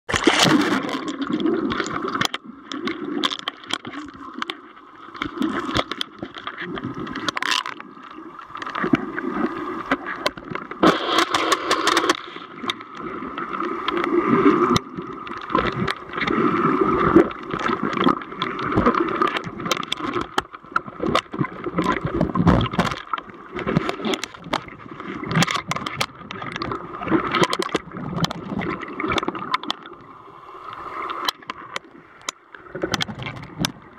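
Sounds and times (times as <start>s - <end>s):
muffled underwater water gurgling: 0.1s - 33.9s.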